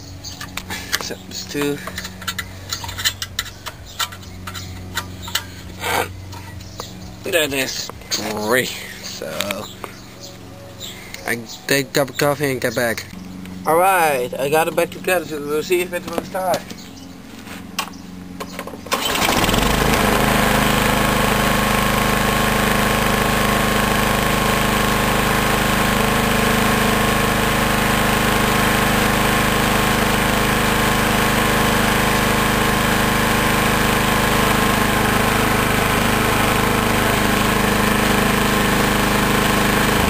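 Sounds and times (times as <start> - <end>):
lawn mower engine running: 0.0 - 11.4, 12.1 - 40.0.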